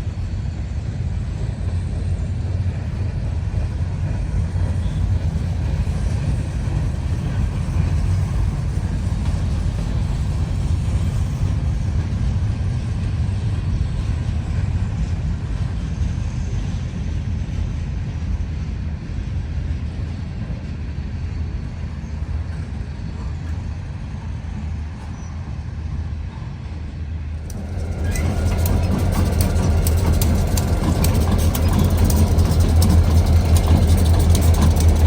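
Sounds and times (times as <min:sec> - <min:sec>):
freight train rumbling: 0:00.0 - 0:35.0.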